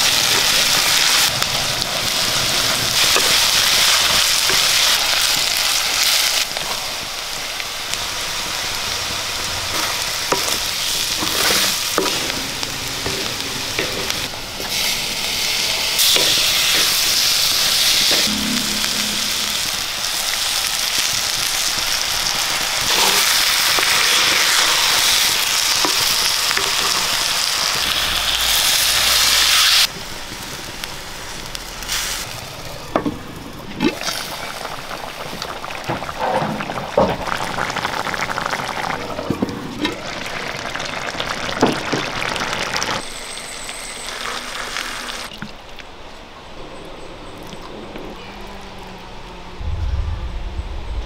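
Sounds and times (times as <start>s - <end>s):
masala sizzling in hot oil: 0.0s - 45.3s.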